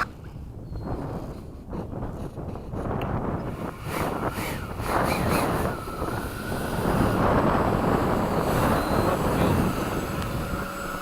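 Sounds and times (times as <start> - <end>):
electric ducted fans whining: 0.0 - 11.0
wind noise on microphone: 0.0 - 11.0.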